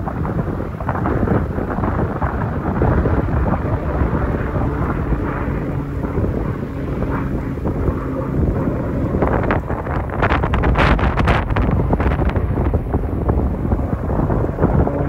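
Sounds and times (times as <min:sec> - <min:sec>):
plane engine droning: 0:00.0 - 0:15.0
wind buffeting microphone: 0:00.0 - 0:15.0.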